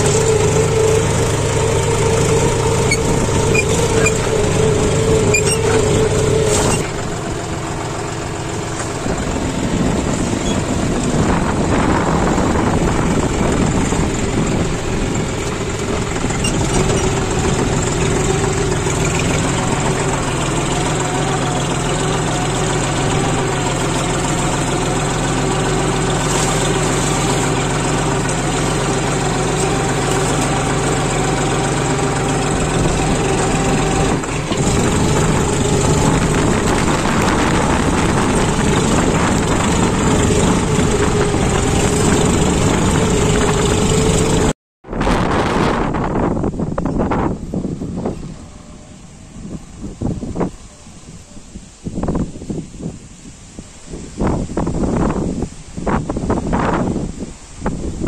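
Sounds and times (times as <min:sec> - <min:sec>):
tractor diesel engine running: 0:00.0 - 0:53.2.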